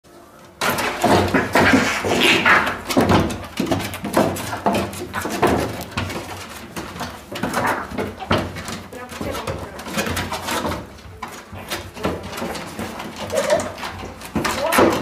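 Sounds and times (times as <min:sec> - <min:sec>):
thumps against wooden boards: 0:00.6 - 0:15.0.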